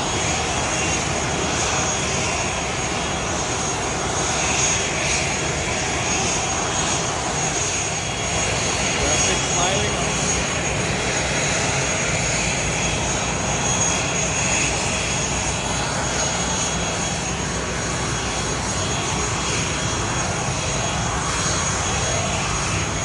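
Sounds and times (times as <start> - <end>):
airplane engines rushing: 0.0 - 23.0
high engine whine: 0.0 - 23.0.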